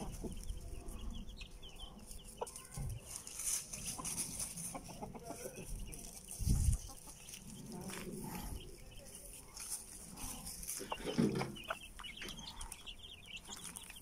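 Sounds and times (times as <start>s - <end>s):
chickens clucking softly: 0.0s - 14.0s.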